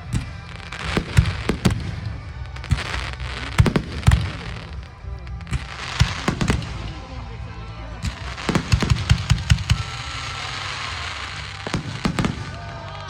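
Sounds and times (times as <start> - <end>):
fireworks bangs: 0.0 - 7.4, 8.0 - 13.0
fireworks crackling: 0.0 - 13.0.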